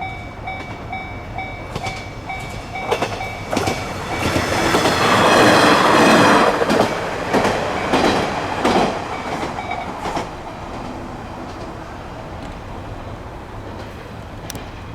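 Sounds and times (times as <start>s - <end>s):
diesel railcar passing: 0.0s - 14.9s
train wheels clacking on rail joints: 0.0s - 14.9s.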